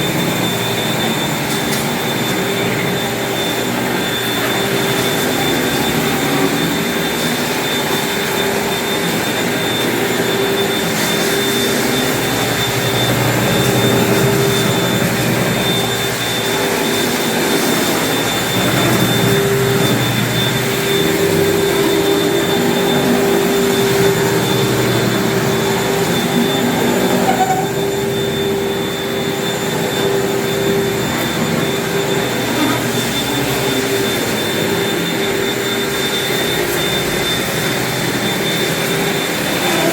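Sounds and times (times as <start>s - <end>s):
floor-cleaning machine motor whine: 0.0s - 39.9s.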